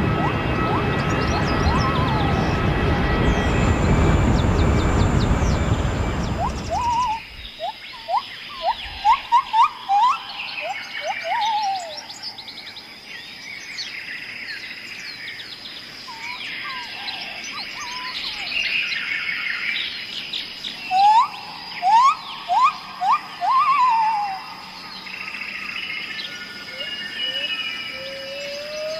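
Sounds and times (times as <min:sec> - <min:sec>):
bird upward-sweeping whistles: 0:00.0 - 0:12.3, 0:16.1 - 0:19.8, 0:20.7 - 0:28.9
birds twittering and chirping: 0:00.0 - 0:28.9.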